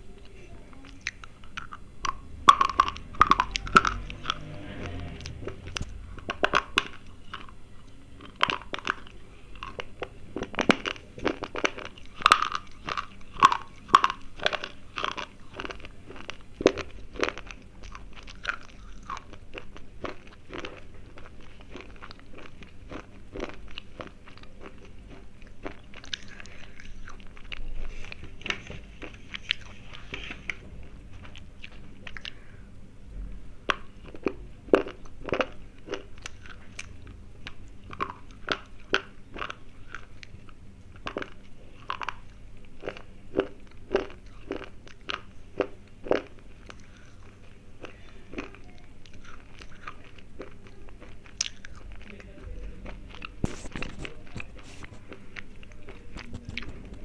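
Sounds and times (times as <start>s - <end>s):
slate pencils being chewed: 0.2s - 32.5s, 33.7s - 57.0s.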